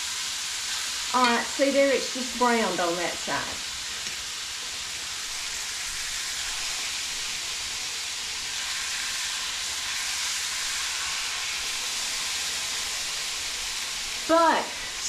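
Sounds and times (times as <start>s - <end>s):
steak sizzling in a skillet: 0.0s - 15.0s.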